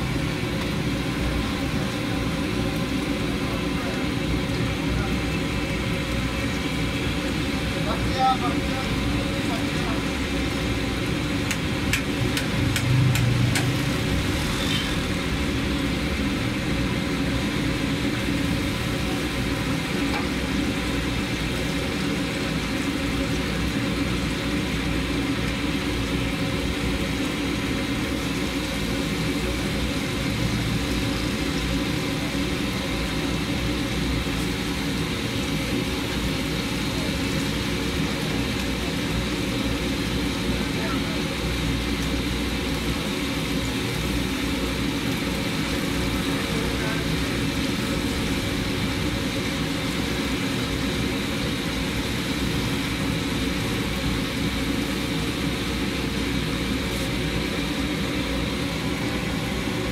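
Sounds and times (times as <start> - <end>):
low engine-like hum: 0.0 - 51.5, 52.1 - 59.9
oil sizzling in deep frying: 0.0 - 59.9.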